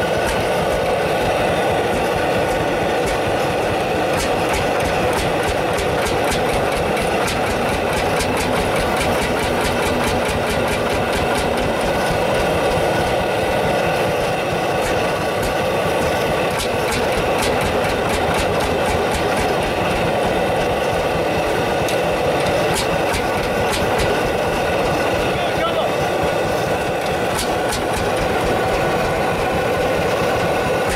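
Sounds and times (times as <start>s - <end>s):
tractor engine exhaust knocks: 1.9s - 30.9s.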